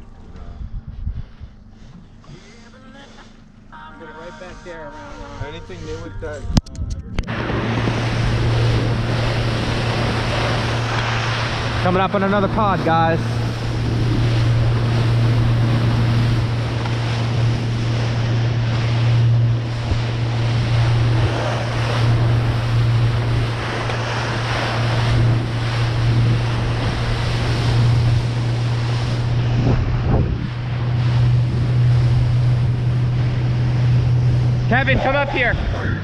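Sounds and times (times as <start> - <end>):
wind buffeting microphone: 0.0 - 2.2, 5.4 - 36.0
boat engine humming: 0.0 - 36.0
water rushing past hull: 7.2 - 36.0.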